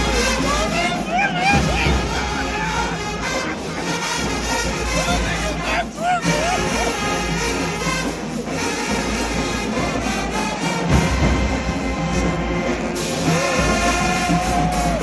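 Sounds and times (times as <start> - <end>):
brass horns playing melody: 0.0 - 15.0
marching drums: 0.0 - 15.0.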